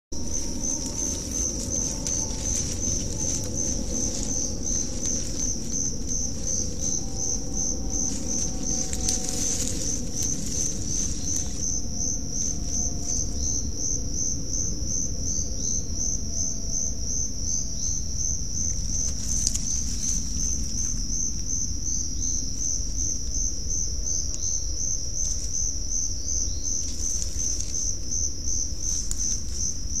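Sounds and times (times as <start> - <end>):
cricket chirping: 0.1 - 30.0.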